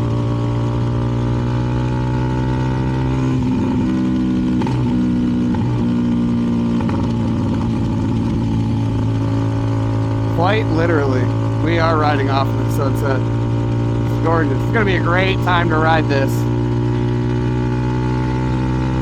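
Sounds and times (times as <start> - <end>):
motorcycle engine at road speed: 0.0 - 19.0.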